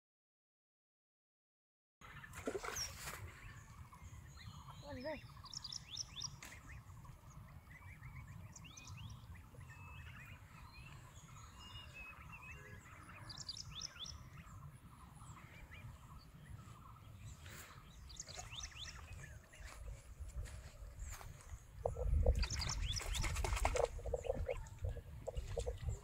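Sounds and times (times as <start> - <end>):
small birds chirping: 2.0 - 26.0.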